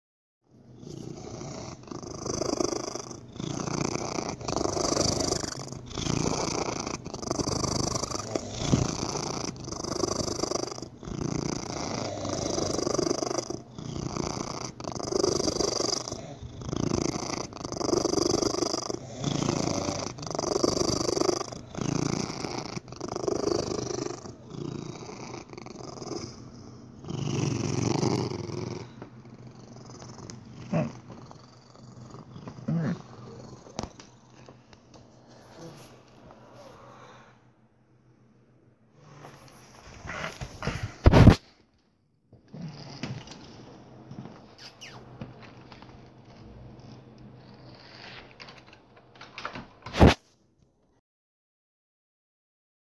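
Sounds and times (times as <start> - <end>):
cat purring: 0.7 - 37.4, 39.0 - 41.4, 42.5 - 45.0, 46.0 - 48.5.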